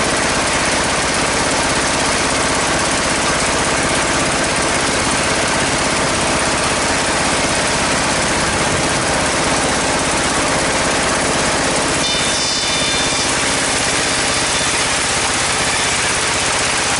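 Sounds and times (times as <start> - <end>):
band saw engine running: 0.0 - 16.9.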